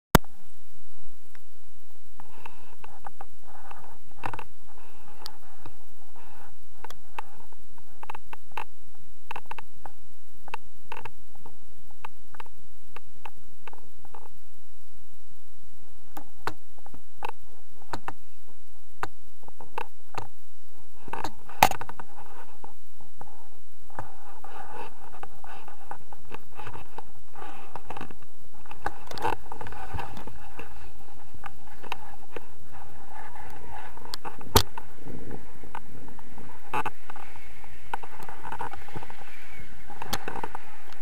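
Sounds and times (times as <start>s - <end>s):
wind rushing over microphone: 0.3s - 41.0s.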